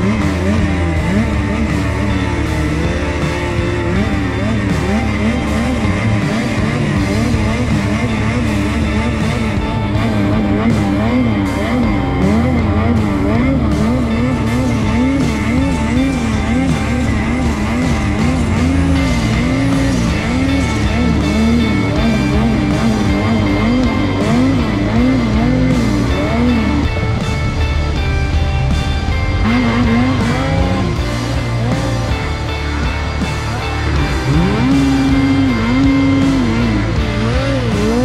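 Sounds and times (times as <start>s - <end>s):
rock music: 0.0s - 38.0s
snowmobile engine revving: 0.0s - 38.0s.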